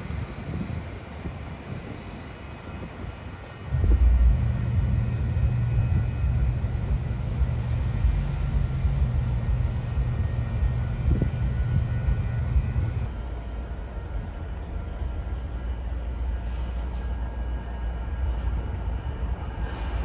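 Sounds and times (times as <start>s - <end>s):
train passing close by: 0.0s - 20.0s.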